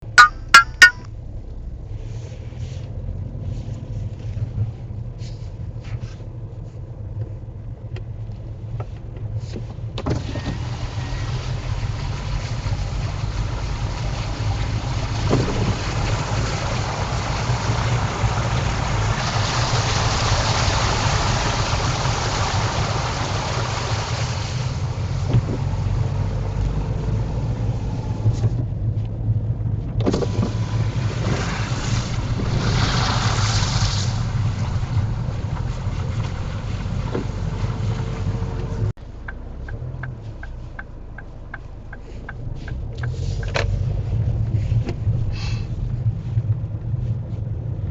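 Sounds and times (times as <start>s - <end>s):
tyres swishing through water: 8.6s - 29.0s, 29.8s - 47.9s.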